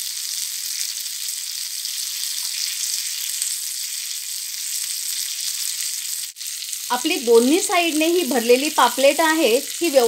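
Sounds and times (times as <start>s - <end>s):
fish sizzling in frying pan: 0.0s - 10.0s.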